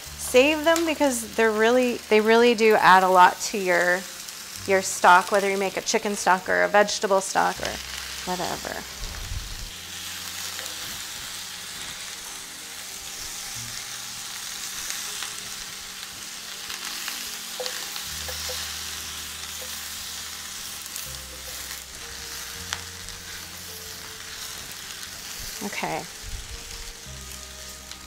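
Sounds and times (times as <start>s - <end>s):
vegetables sizzling in skillet: 0.0s - 28.0s.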